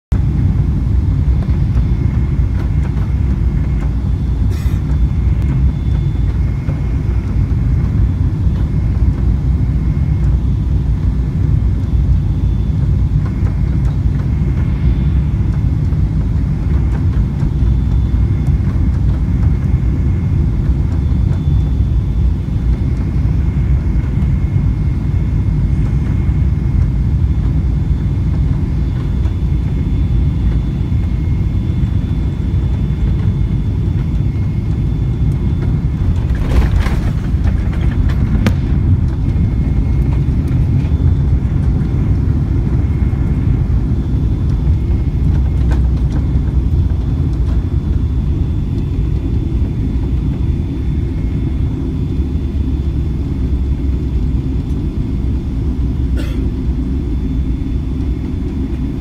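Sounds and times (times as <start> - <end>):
airliner cabin rumble: 0.1 - 59.0
faint high whine: 0.2 - 59.0.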